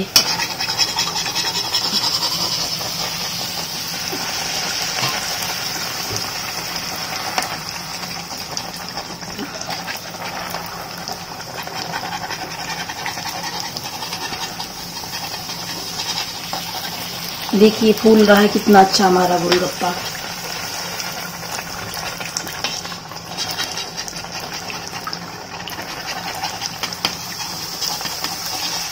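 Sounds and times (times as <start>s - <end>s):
food deep-frying in hot oil: 0.0s - 28.9s.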